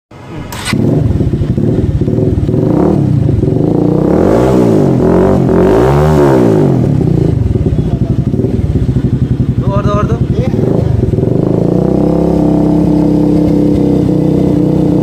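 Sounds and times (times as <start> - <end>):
motorcycle engine revving: 0.2 - 15.0.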